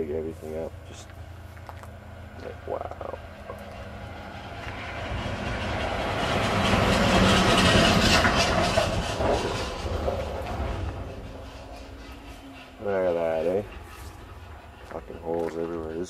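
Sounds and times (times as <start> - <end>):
heavy truck driving past: 0.0 - 16.0
trailers rattling and clattering: 0.0 - 16.0.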